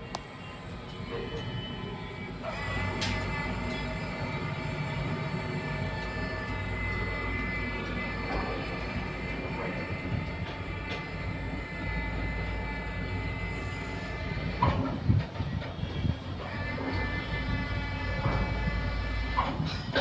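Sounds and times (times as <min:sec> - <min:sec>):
machinery rumbling and whining: 0:00.0 - 0:20.0.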